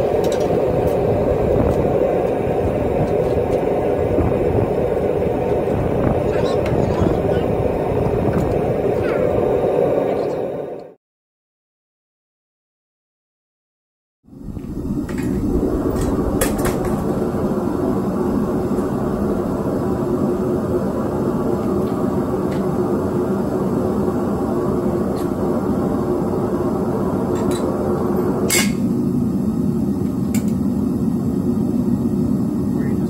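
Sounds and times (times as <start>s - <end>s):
furnace burner rumbling: 0.0s - 11.0s, 14.3s - 33.0s.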